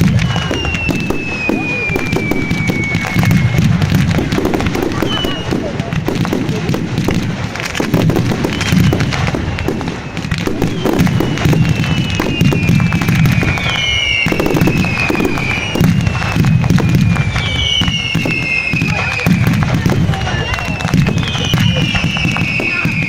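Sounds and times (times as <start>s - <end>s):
fireworks crackling: 0.0s - 23.0s
low booms of shells bursting: 0.0s - 23.0s
whistling fireworks shells: 0.0s - 23.0s.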